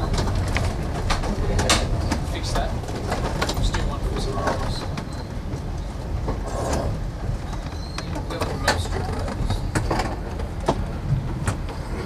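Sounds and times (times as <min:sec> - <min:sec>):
train carriage rumbling: 0:00.0 - 0:12.0
wheels clicking over rail joints: 0:00.0 - 0:12.0.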